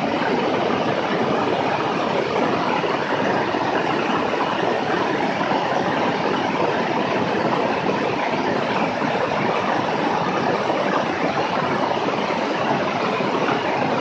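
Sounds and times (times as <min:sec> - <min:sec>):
airplane engine in flight: 0:00.0 - 0:14.0.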